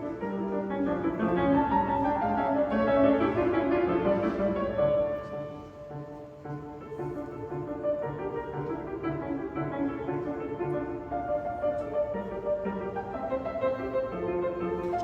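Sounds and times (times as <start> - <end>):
piano trio playing classical piece: 0.0 - 15.0.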